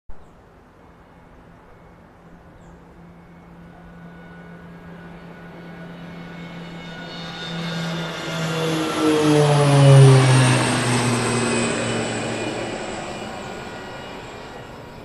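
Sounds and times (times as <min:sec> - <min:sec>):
turboprop engines droning: 0:00.6 - 0:15.0.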